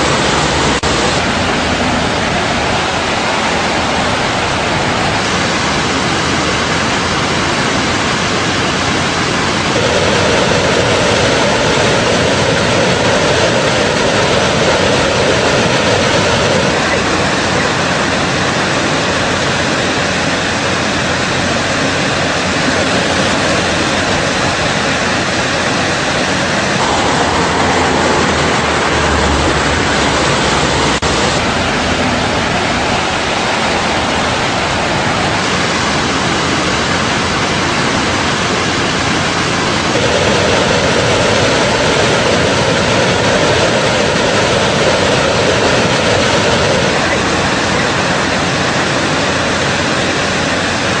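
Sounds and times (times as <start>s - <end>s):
flowing water rushing: 0.0s - 51.0s.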